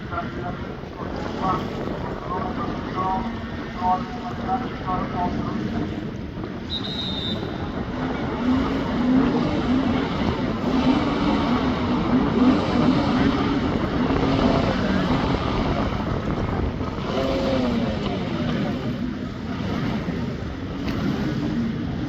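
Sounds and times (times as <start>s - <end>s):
jet ski engine running: 0.0s - 22.0s
wind noise: 0.0s - 22.0s.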